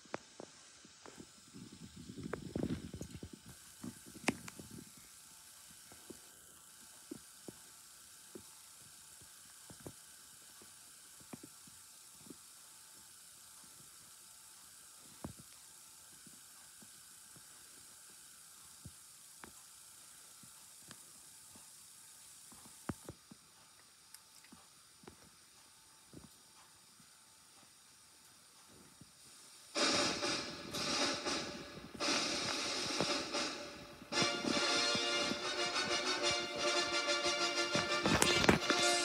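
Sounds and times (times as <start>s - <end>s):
faint steady hiss: 0.0s - 39.0s.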